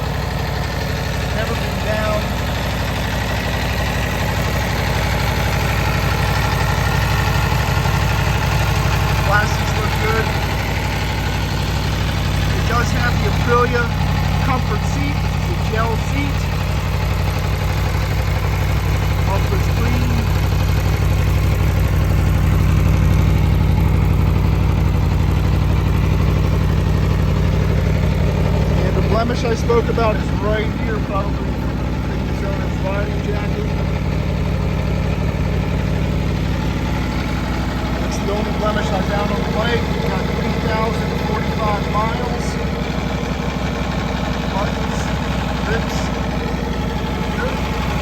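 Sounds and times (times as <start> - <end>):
motorcycle engine idling: 0.0 - 48.0.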